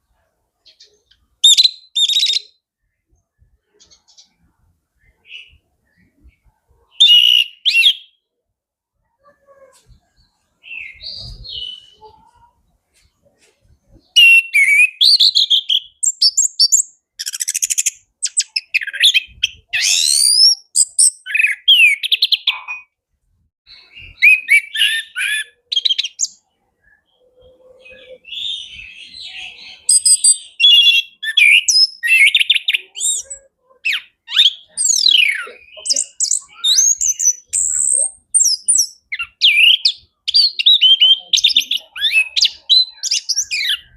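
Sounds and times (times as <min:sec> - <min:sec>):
bird singing whistles and trills: 0:00.6 - 0:02.6, 0:05.0 - 0:08.2, 0:10.2 - 0:12.2, 0:13.9 - 0:22.9, 0:23.7 - 0:43.9.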